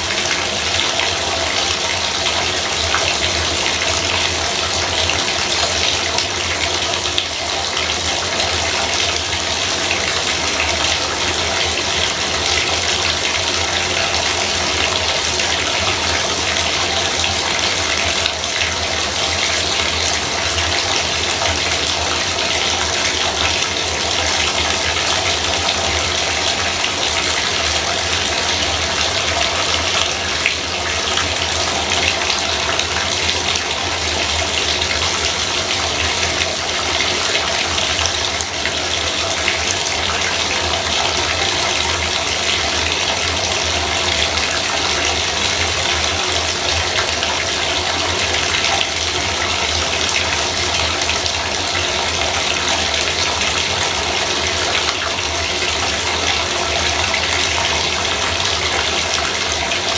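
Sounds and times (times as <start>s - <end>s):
bathtub faucet running: 0.0s - 59.9s.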